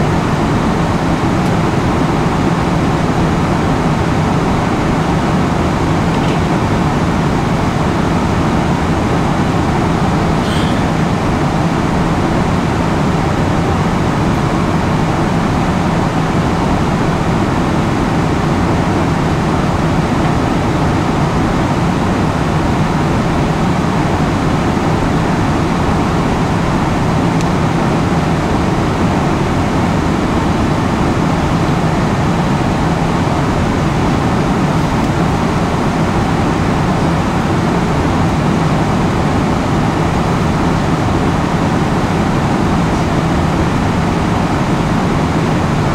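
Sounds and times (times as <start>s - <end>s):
airliner cabin engine noise: 0.0s - 45.9s.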